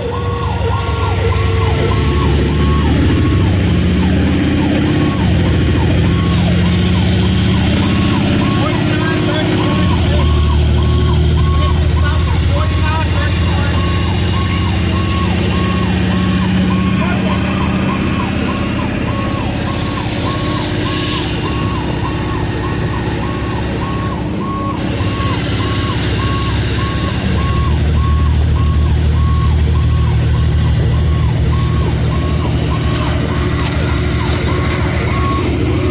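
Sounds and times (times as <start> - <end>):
diesel engine running: 0.0 - 35.9
warning beeper: 0.0 - 35.9.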